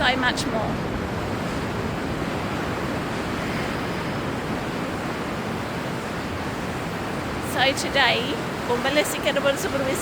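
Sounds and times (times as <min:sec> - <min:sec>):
waves rushing: 0:00.0 - 0:10.0
wind: 0:00.0 - 0:10.0.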